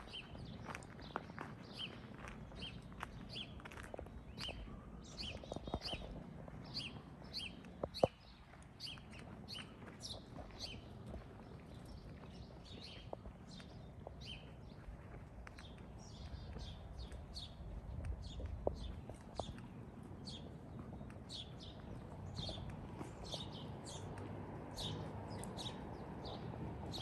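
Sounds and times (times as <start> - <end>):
footsteps on pavement: 0.0 - 27.0
small birds chirping: 0.0 - 27.0.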